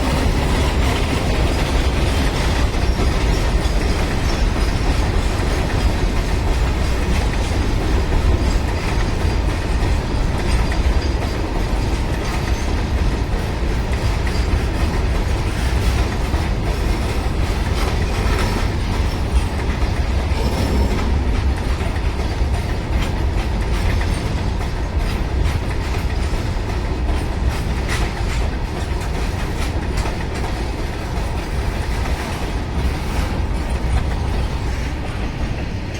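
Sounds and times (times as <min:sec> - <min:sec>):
freight train low rumble: 0:00.0 - 0:35.9
wheels clacking over rail joints: 0:00.0 - 0:35.9.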